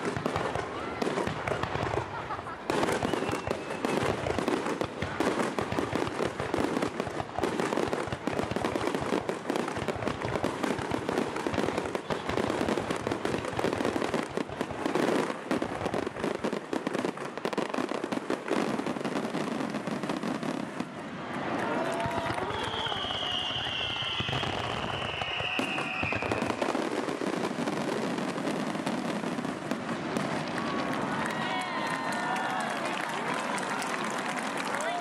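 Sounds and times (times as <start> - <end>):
fireworks launches and bangs: 0.0 - 35.0.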